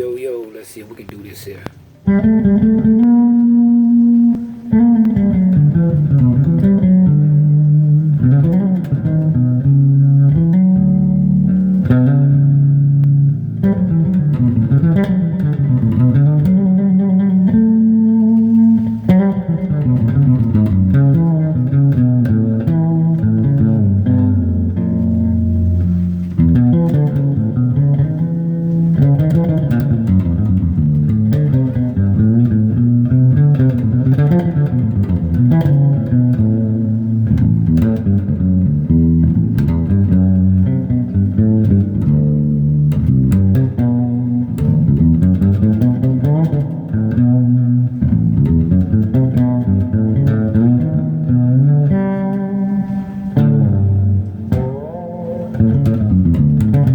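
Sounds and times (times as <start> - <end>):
fretless bass guitar sliding notes: 1.6 - 56.9.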